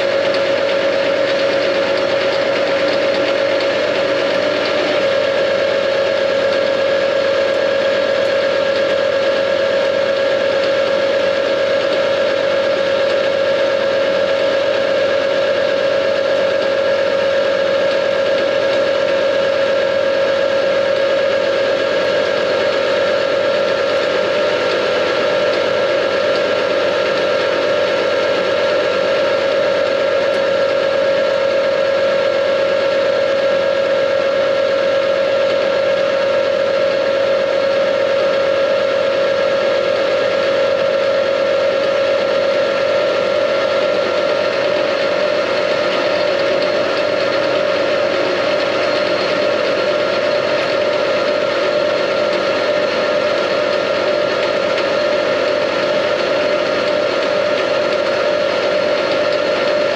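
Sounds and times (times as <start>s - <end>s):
metal lathe whining: 0.0s - 59.9s.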